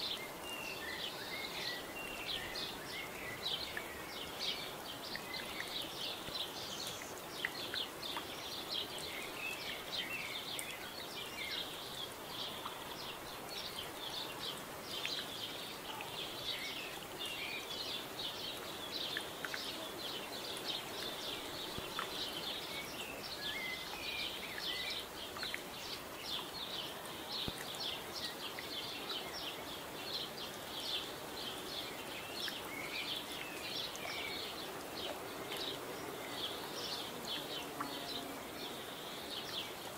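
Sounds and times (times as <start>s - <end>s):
faint outdoor hiss: 0.0s - 39.9s
small birds chirping: 0.0s - 39.9s.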